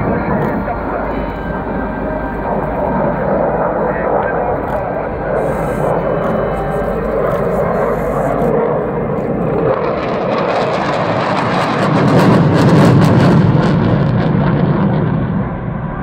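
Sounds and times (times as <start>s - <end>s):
jet fighters passing overhead: 0.0s - 16.0s.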